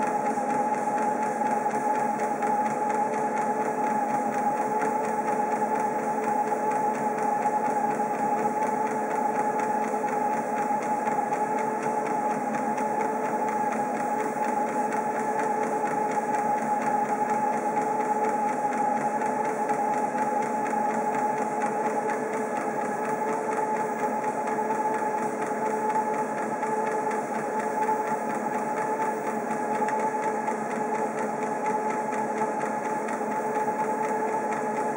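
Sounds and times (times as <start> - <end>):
treadmill motor whine: 0.0 - 34.9.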